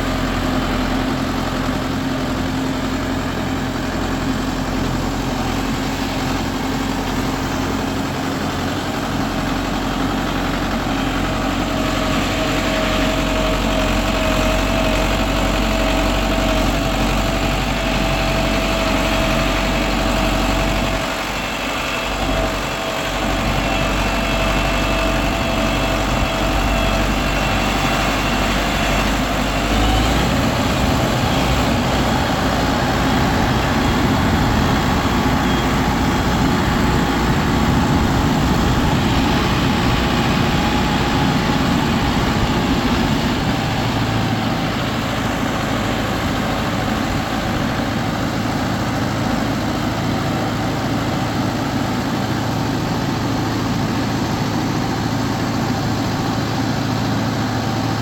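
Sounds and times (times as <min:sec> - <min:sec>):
engine running with whine: 0:00.0 - 0:58.0.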